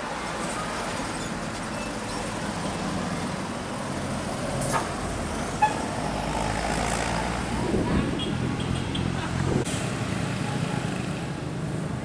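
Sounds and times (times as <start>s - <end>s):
heavy vehicle engine and tyres: 0.0s - 12.0s.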